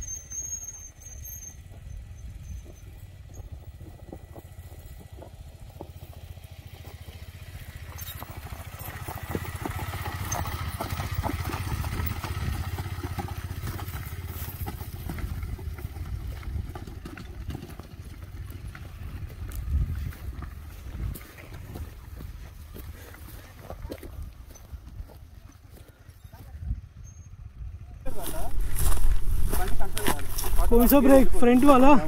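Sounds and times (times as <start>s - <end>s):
motorcycle engine at low speed: 0.0s - 32.0s.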